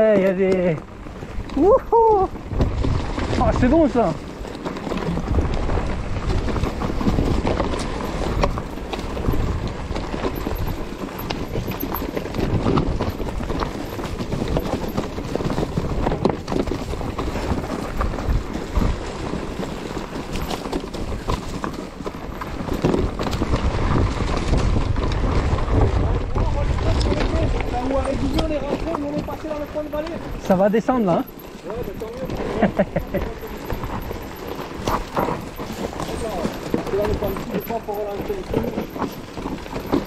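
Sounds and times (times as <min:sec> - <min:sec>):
mountain bike clattering and rattling: 0:00.0 - 0:40.0
wind rumble on microphone: 0:00.0 - 0:40.0.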